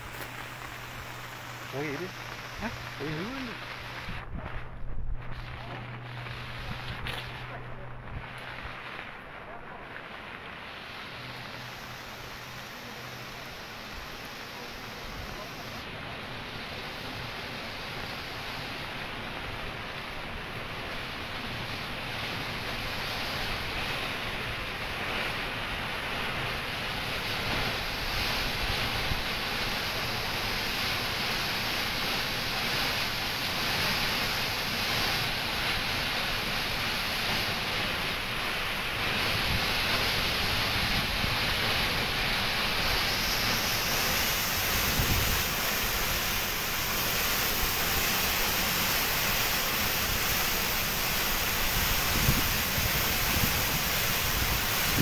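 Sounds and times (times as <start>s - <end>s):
water jetting and crashing: 0.0s - 55.0s.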